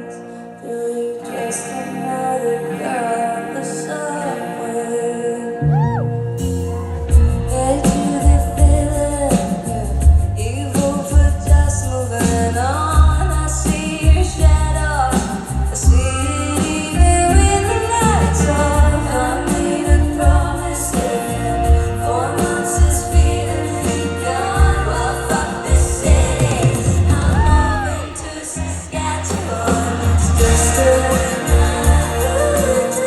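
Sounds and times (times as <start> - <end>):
woman singing pop song: 0.0 - 33.0
band with pulsing bass: 5.6 - 33.0.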